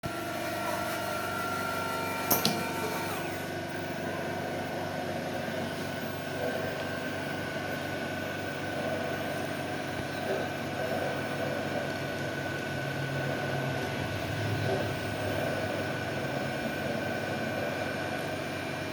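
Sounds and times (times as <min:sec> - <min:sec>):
machinery humming: 0:00.0 - 0:18.9.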